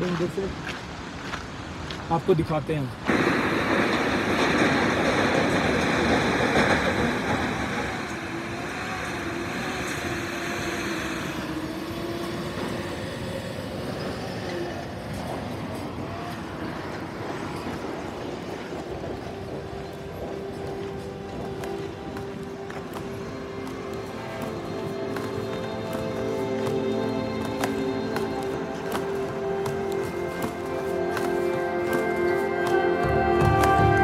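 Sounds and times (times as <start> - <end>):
heavy truck engines: 0.0 - 34.0.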